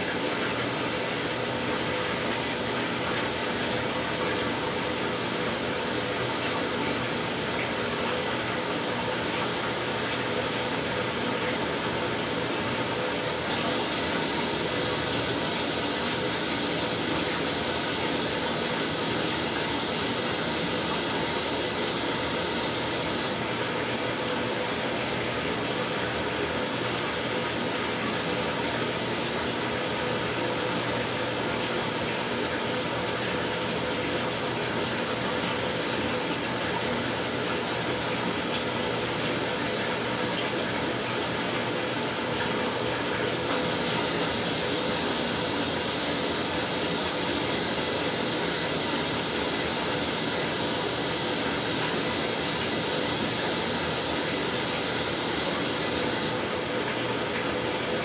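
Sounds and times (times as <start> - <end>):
washing machine hum: 0.0 - 58.0
water pouring into washing machine: 0.0 - 58.0.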